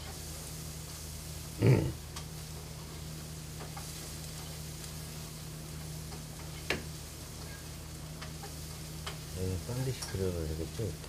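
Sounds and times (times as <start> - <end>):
faint hiss: 0.0 - 11.0
low electrical hum: 0.0 - 11.0.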